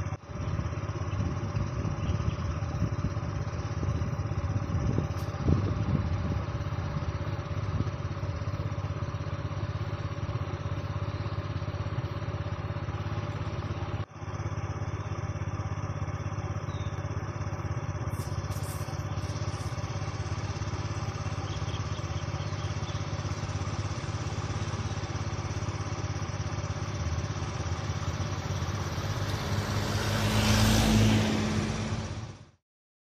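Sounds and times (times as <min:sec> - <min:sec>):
louder engine sound: 0:00.0 - 0:32.6
vehicle engine idling: 0:00.0 - 0:32.6.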